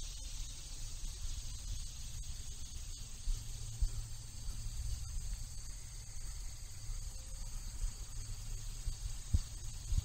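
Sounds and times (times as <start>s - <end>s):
high insect chorus: 0.0s - 10.0s.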